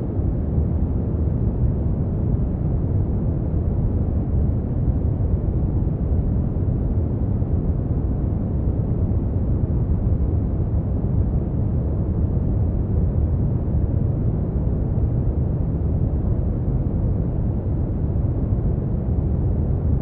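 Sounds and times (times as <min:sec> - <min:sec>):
brown noise rumbling hiss: 0:00.0 - 0:20.0.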